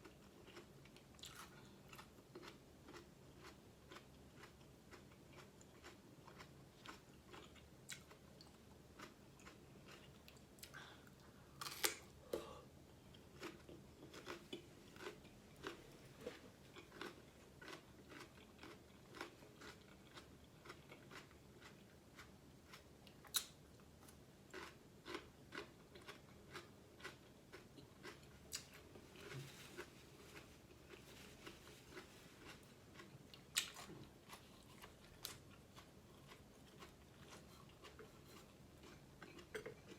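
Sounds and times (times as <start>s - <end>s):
chewing and biting food: 0.0s - 10.8s, 13.1s - 23.6s, 24.5s - 39.9s.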